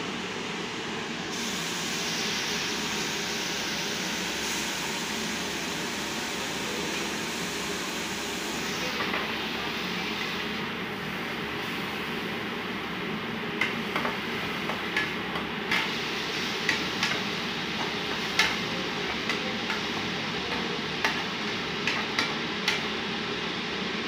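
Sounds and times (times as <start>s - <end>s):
steady cooking hiss: 0.0s - 24.0s.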